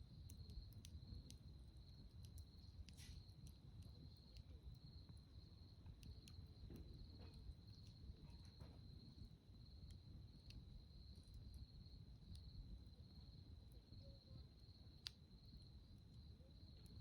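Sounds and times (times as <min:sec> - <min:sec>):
faint campfire crackle: 0:00.0 - 0:17.0.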